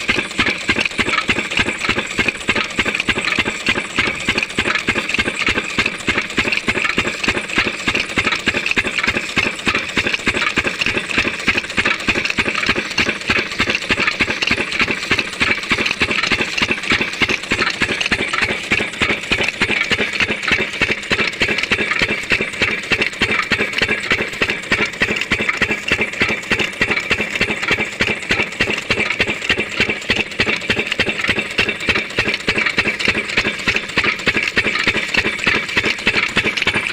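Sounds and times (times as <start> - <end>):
diesel pump engine running: 0.0 - 36.9.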